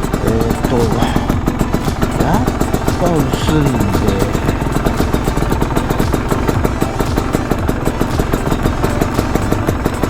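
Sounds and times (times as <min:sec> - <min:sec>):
two-stroke engine idling: 0:00.0 - 0:10.0.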